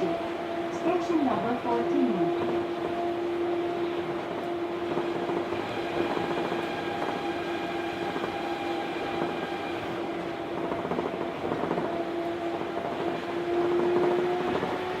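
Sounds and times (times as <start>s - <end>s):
monorail running rumble: 0.0s - 15.0s.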